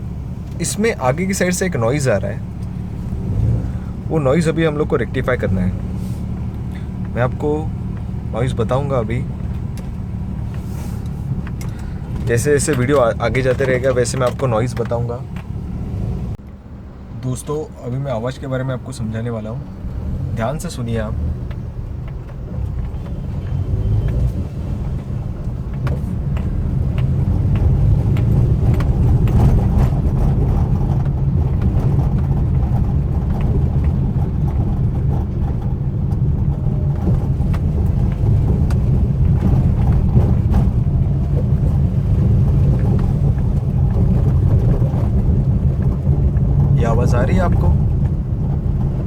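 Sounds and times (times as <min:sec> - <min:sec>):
seat rattle: 0:00.0 - 0:16.4, 0:17.2 - 0:49.0
road rumble inside car: 0:00.0 - 0:49.0
light knocks and rattles: 0:00.4 - 0:16.4, 0:19.7 - 0:49.0.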